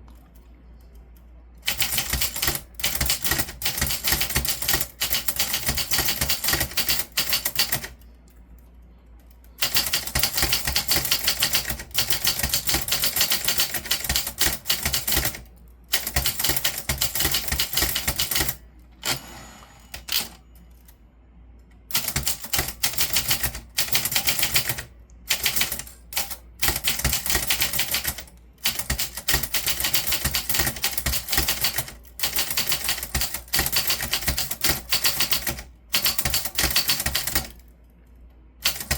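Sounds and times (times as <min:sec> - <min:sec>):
typewriter typing: 0:01.6 - 0:08.0, 0:09.6 - 0:19.3, 0:19.9 - 0:20.4, 0:21.9 - 0:37.6, 0:38.6 - 0:38.9.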